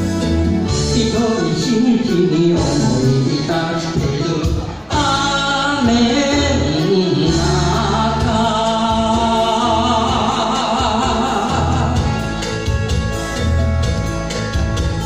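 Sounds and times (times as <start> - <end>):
backing music with bass line: 0.0 - 15.0
person singing into microphone: 0.6 - 12.8.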